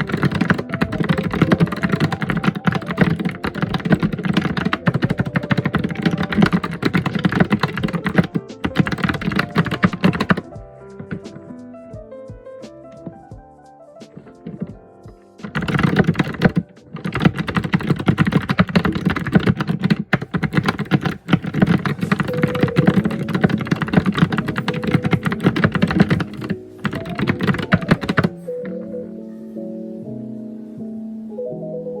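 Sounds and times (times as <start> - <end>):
fast typing on keyboard: 0.0 - 11.4, 14.2 - 14.8, 15.4 - 29.0
soft background music: 0.0 - 32.0.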